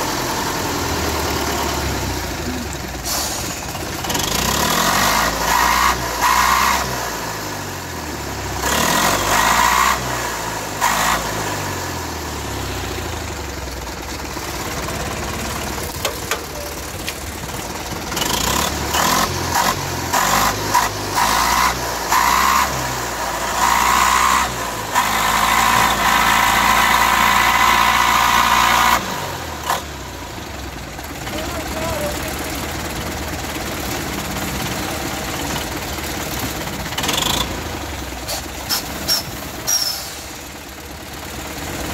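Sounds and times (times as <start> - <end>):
diesel engine revving: 0.0 - 41.9.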